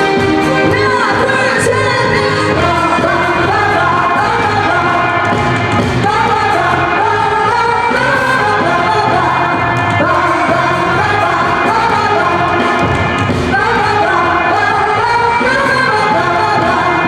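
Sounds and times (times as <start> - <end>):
backing track with steady beat: 0.0 - 17.0
woman singing pop song: 0.0 - 17.0.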